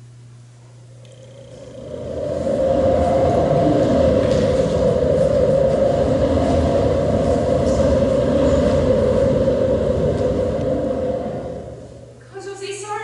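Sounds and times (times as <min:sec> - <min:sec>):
loud steady rumbling: 0:00.0 - 0:13.0.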